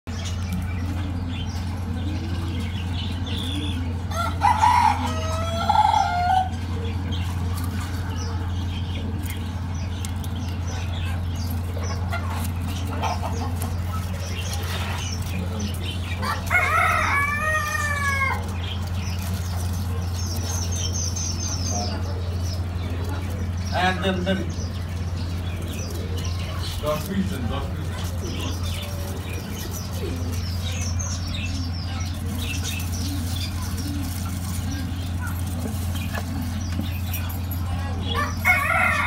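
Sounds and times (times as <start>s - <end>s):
drawn-out bird calls: 0.1s - 39.0s
steady low hum: 0.1s - 39.0s.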